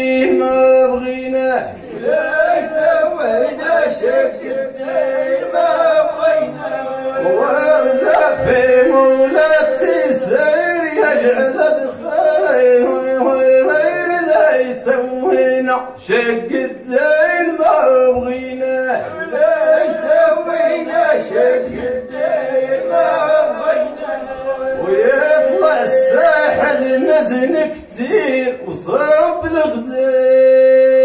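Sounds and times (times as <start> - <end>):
men singing unaccompanied: 0.0 - 31.0.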